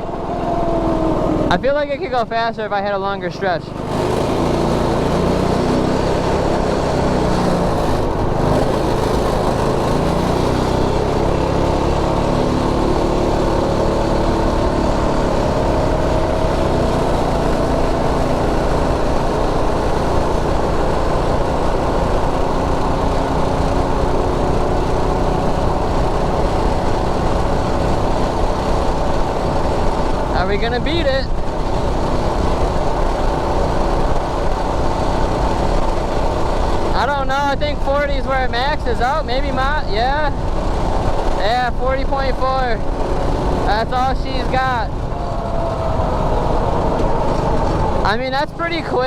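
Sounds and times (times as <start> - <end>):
small engine droning at full throttle: 0.0 - 49.0.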